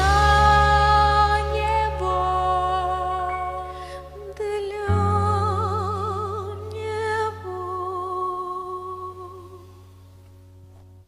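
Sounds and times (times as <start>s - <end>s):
sustained low accompaniment: 0.0s - 11.0s.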